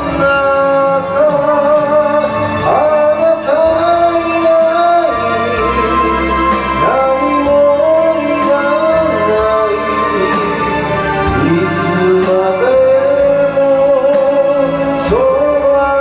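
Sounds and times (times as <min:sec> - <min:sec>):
karaoke backing track: 0:00.0 - 0:16.0
person singing slow melody: 0:00.0 - 0:16.0.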